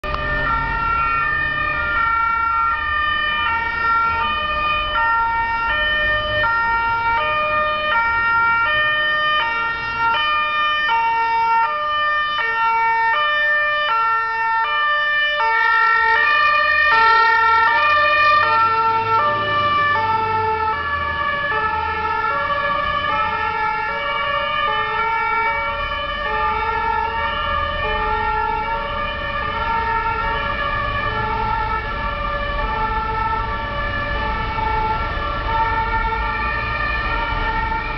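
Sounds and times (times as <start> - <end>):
street traffic rumble: 0.0 - 37.9
two-tone fire engine sirens: 0.0 - 37.9.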